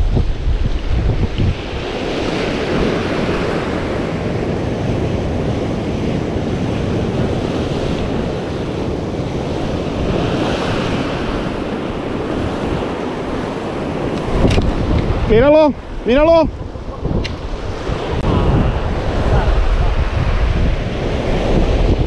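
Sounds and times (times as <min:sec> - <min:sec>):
wind buffeting microphone: 0:00.0 - 0:22.0
waves breaking on rocks: 0:00.4 - 0:22.0.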